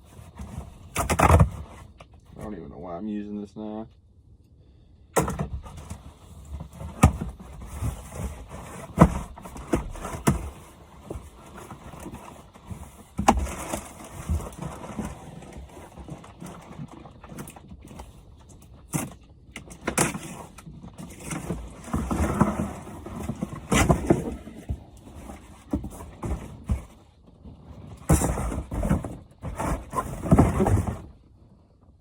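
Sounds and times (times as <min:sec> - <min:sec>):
rustling: 0:00.0 - 0:02.4, 0:05.5 - 0:31.3.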